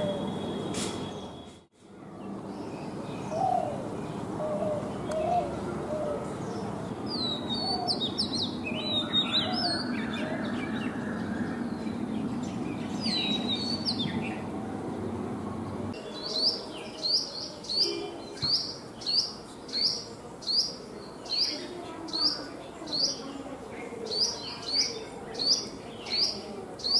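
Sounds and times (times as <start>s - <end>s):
background noise: 0.0s - 26.9s
birds chirping: 0.0s - 26.9s.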